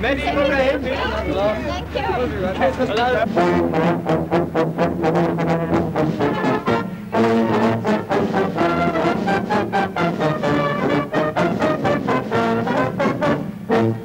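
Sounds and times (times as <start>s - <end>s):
brass band playing: 2.7s - 14.0s.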